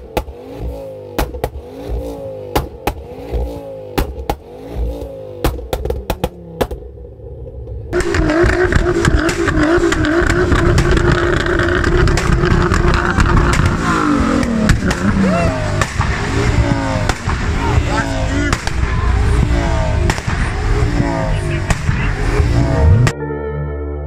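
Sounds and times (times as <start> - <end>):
car engine revving: 0.0 - 23.1.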